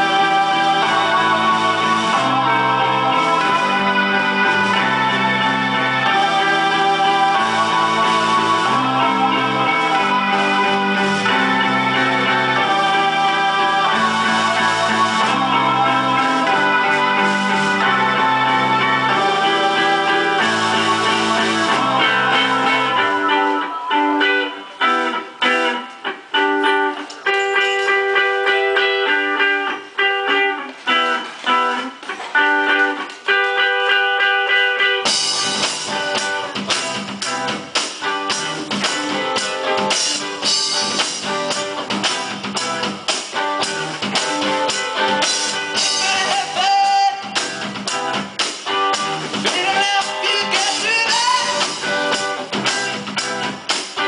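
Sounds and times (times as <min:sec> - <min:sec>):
electric guitar picking a figure: 0:00.0 - 0:54.0
indie rock band playing live: 0:00.0 - 0:54.0.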